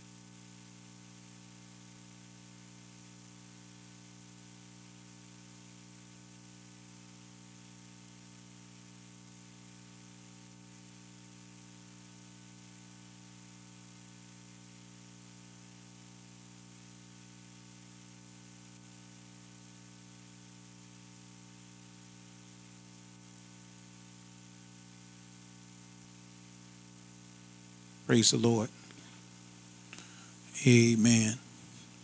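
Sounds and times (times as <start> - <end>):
constant hiss: 0.0 - 32.0
electrical mains hum: 0.0 - 32.0.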